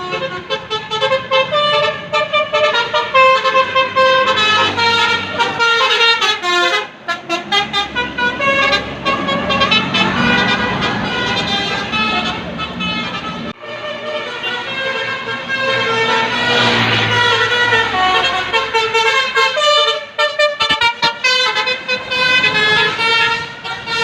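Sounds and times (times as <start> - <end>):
musical bus air horn: 0.0 - 24.0.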